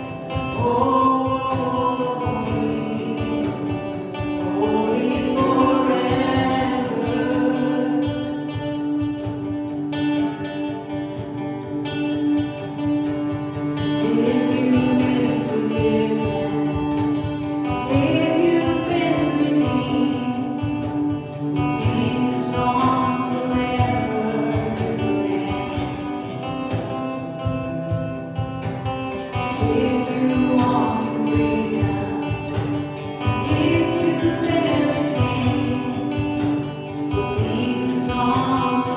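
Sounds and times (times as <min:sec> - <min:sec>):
gospel singing with band: 0:00.0 - 0:38.9.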